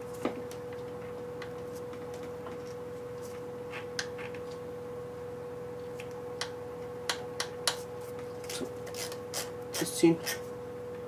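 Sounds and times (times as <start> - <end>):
faint high hum: 0.0 - 11.0.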